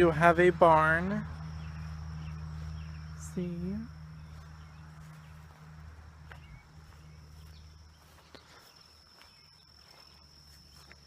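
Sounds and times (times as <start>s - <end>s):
high insect drone: 0.0s - 11.0s
low hum: 0.0s - 11.0s.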